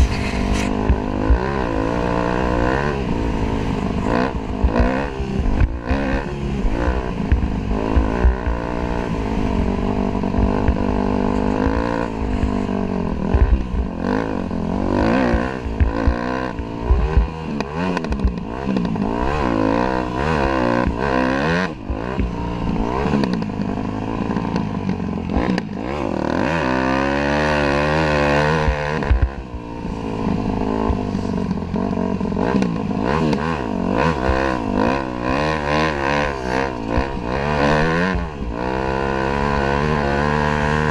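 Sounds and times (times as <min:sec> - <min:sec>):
clatter and low thumps: 0:00.0 - 0:40.9
dirt bike engine revving: 0:00.0 - 0:40.9.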